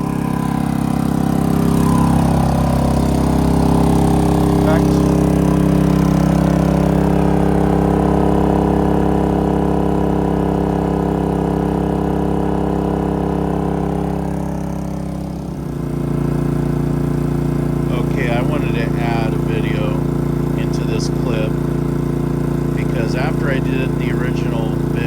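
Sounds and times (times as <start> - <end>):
portable generator droning: 0.0 - 25.0.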